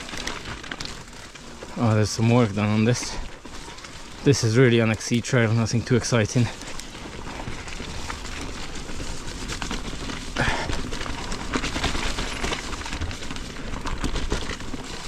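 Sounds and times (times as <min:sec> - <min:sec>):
bike clicks and rattles: 0:00.0 - 0:15.0
bike tyres on muddy trail: 0:00.0 - 0:15.0.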